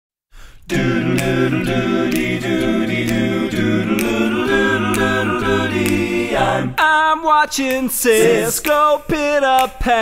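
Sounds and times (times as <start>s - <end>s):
a cappella layered singing: 0.6s - 10.0s
sharp click keeping a beat: 0.7s - 10.0s.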